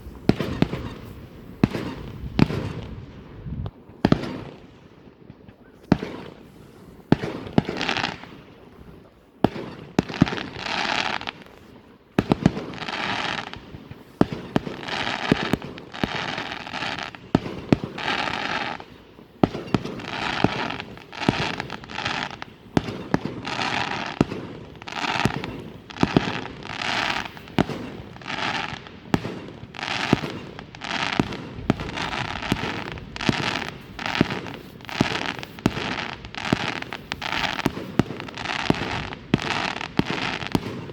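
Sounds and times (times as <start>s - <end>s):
fireworks bangs with crackle: 0.0s - 40.9s.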